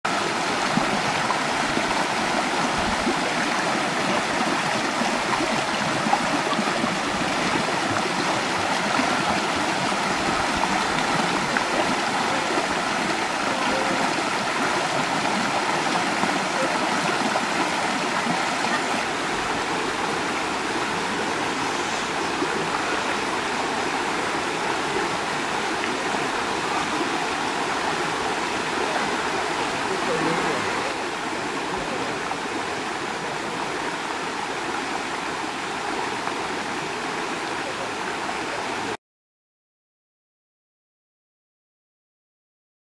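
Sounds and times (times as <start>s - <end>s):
stream rushing over stones: 0.1s - 39.0s.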